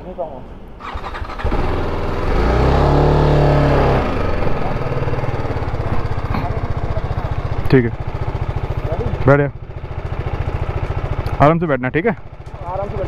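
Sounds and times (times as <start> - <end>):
motorcycle engine revving and idling: 0.8 - 13.0.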